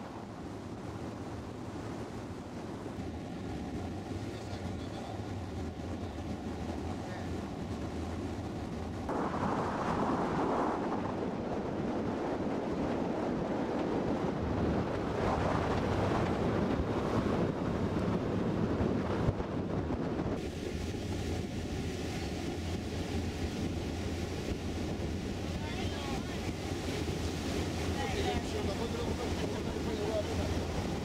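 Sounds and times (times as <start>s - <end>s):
boat engine humming: 0.0s - 9.2s, 13.7s - 31.0s
water rushing along hull: 0.0s - 31.0s
wind buffeting microphone: 0.0s - 31.0s.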